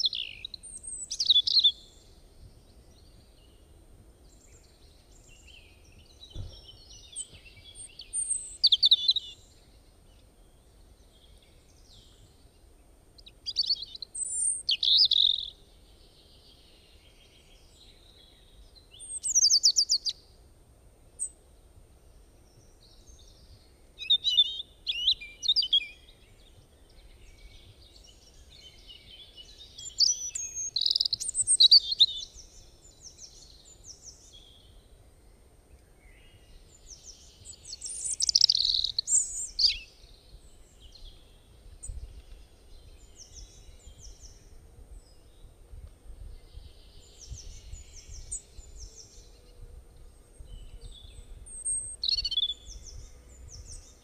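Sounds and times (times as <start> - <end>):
faint bird chirps: 0.0 - 20.4, 22.1 - 54.0
faint low background noise: 0.0 - 54.0
songbirds singing: 0.0 - 54.0.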